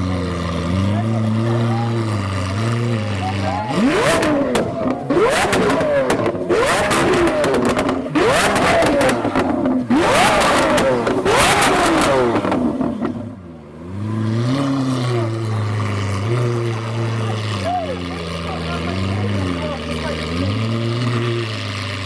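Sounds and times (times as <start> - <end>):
exhaust popping and crackling: 0.0 - 22.0
sports car engine revving: 0.0 - 22.0.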